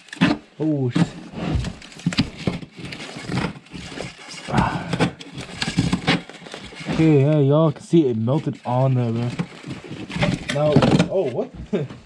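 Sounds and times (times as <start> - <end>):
wooden stick scraping metal: 1.0 - 11.4.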